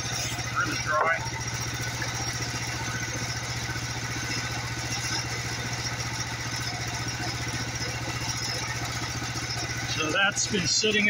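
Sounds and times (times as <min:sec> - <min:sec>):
sawmill engine idling: 0:00.0 - 0:11.0.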